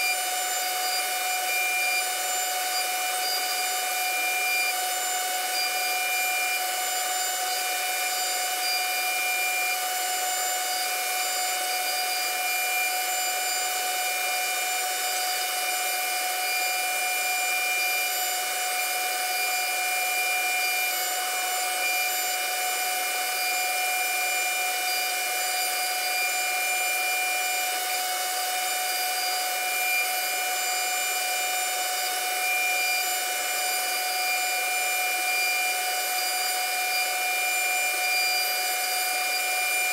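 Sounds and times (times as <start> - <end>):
hiss of bit cutting wood: 0.0 - 39.9
router spindle whining: 0.0 - 39.9.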